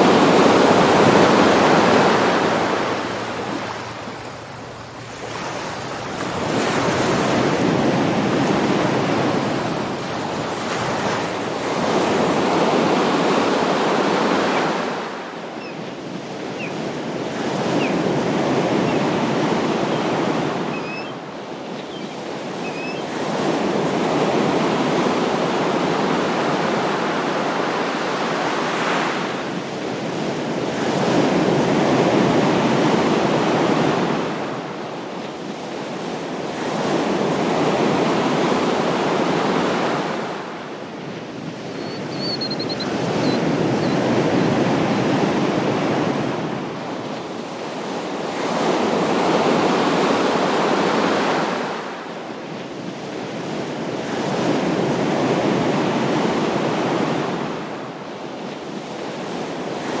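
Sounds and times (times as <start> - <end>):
ocean waves breaking: 0.0 - 60.0.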